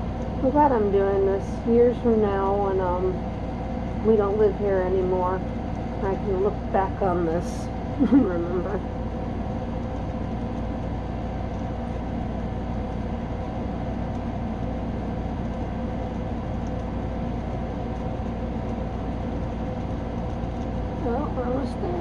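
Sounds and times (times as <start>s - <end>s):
steady mechanical drone: 0.0s - 22.0s.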